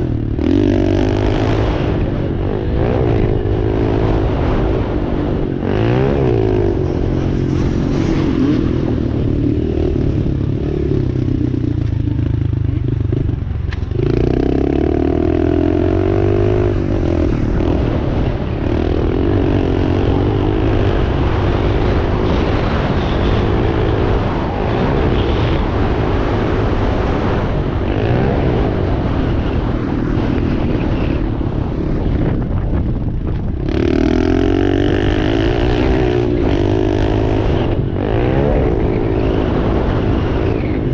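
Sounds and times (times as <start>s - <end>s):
dirt bike engine revving: 0.0s - 31.0s, 33.5s - 40.9s.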